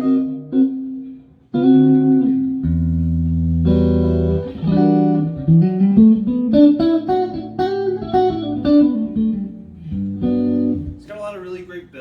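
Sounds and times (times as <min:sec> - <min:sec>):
clean electric guitar playing: 0:00.0 - 0:11.9.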